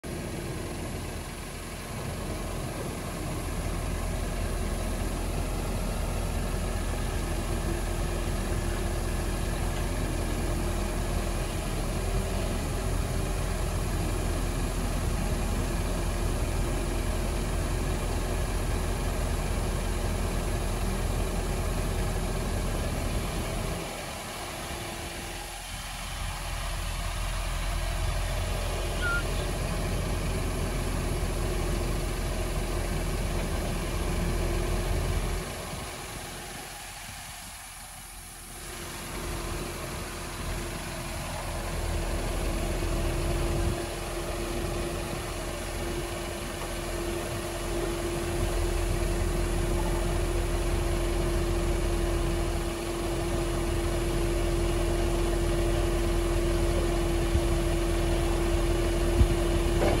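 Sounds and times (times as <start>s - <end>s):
diesel engine running steadily: 0.0s - 60.0s.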